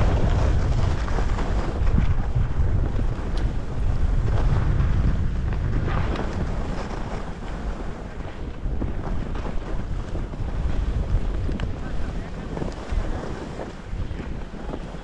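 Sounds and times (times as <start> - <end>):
ski edges scraping snow: 0.0 - 15.0
wind buffeting microphone: 0.0 - 15.0.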